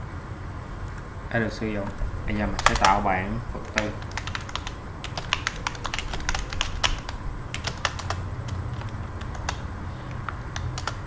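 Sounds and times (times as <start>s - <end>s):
steady low hum: 0.0s - 11.0s
keyboard typing: 1.8s - 11.0s.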